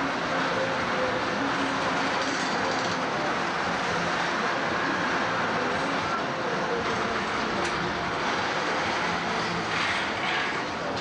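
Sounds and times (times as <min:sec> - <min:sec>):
fairground ride rumbling: 0:00.0 - 0:11.0.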